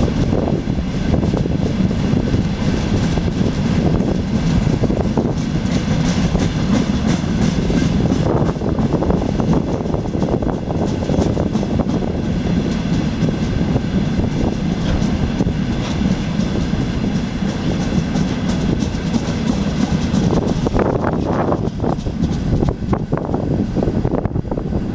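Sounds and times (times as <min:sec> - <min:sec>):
freight train rolling on rails: 0:00.0 - 0:24.9
wind gusts on microphone: 0:00.0 - 0:24.9.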